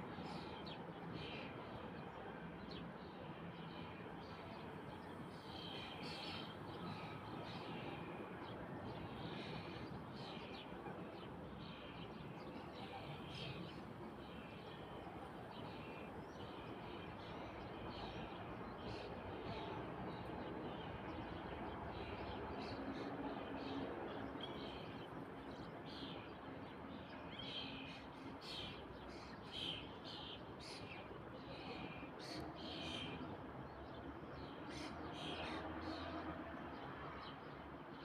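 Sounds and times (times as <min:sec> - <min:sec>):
low background noise: 0:00.0 - 0:38.0.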